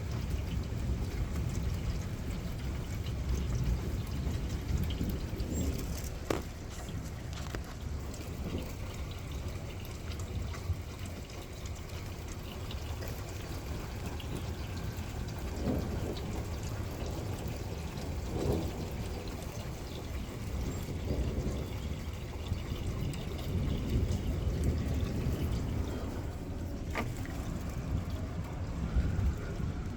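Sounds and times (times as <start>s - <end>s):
splashing gushes: 0.0s - 29.9s
steady rain: 0.0s - 29.9s
water drips: 0.0s - 29.9s
water pouring and trickling: 0.0s - 29.9s.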